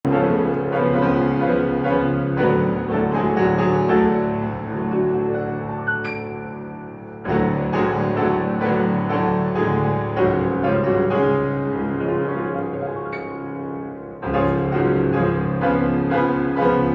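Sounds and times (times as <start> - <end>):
piano chords: 0.0 - 16.9.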